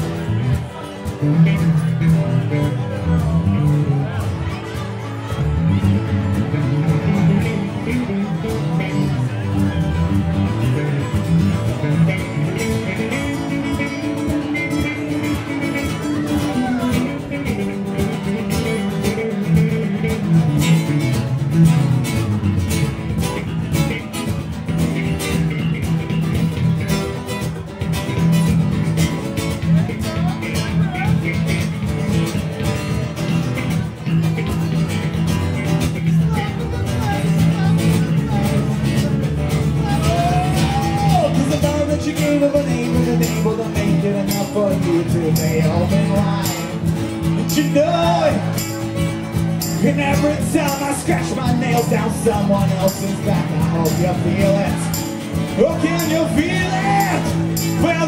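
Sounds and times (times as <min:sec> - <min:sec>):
live band instrumental: 0:00.0 - 0:58.0.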